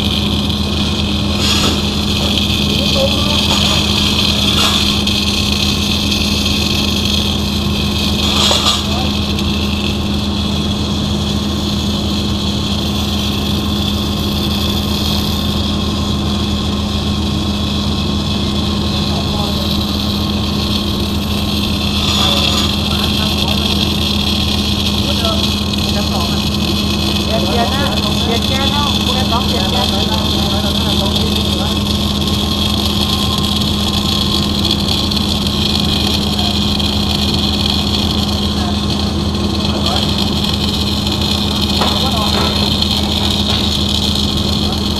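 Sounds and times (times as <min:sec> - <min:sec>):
hiss: 0:00.0 - 0:44.9
machinery humming: 0:00.0 - 0:44.9.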